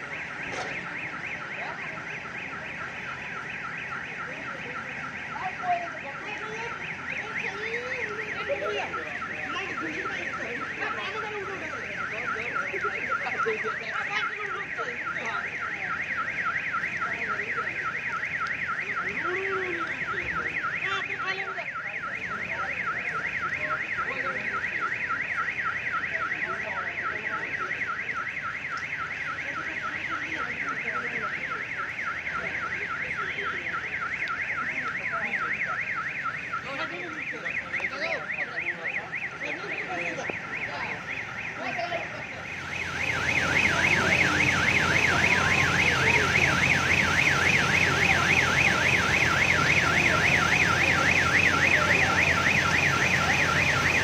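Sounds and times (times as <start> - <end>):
broad noise: 0.0 - 54.0
electronic alarm warbling: 0.0 - 54.0.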